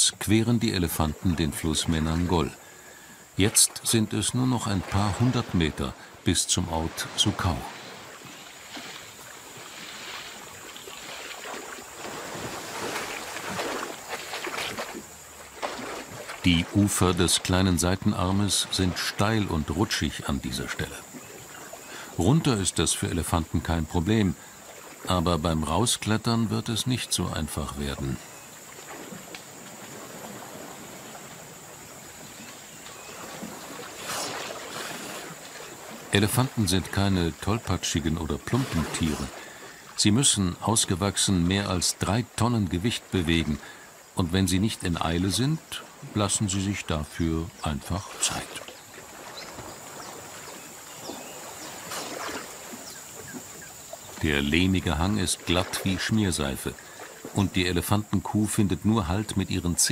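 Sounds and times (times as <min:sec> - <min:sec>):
elephants splashing through water: 0:00.8 - 0:23.4, 0:27.6 - 0:40.2, 0:45.0 - 0:58.0.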